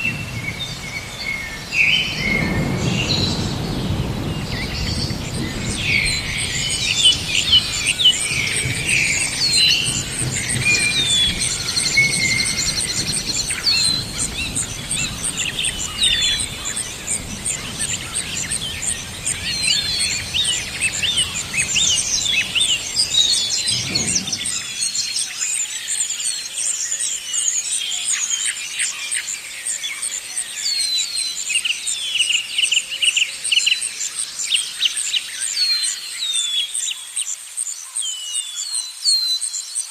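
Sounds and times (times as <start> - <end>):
low wind-like rumble: 0.0 - 35.9
pulsing insect chirr: 0.0 - 39.9
songbirds chirping: 0.0 - 39.9.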